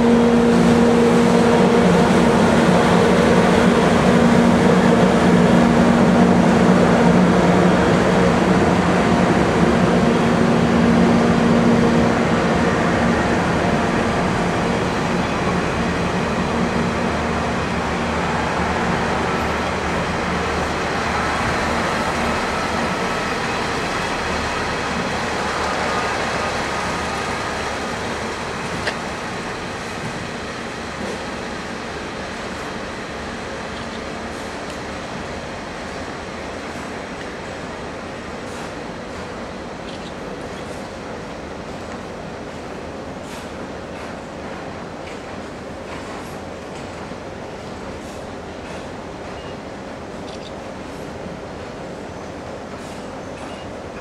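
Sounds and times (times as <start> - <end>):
train rolling on rails: 0.0 - 54.0.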